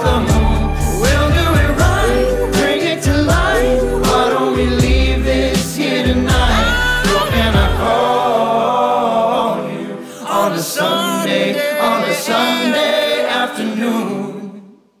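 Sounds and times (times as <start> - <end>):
song with layered voices: 0.0 - 15.0.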